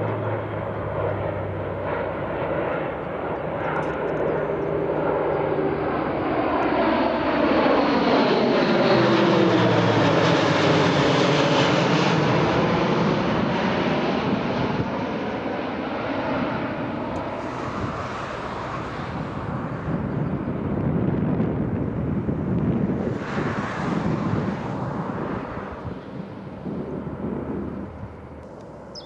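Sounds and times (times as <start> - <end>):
military jet flying over: 0.0 - 29.0.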